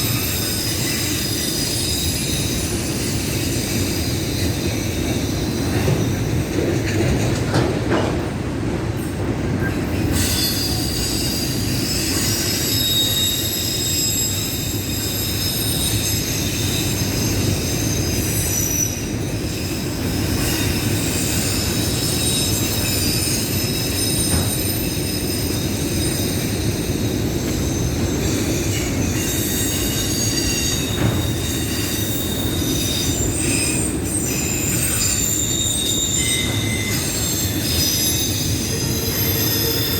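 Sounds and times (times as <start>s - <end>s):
high-pitched wheel squeal: 0.0s - 6.3s, 10.1s - 39.9s
train wheels rumbling on rail: 0.0s - 39.9s.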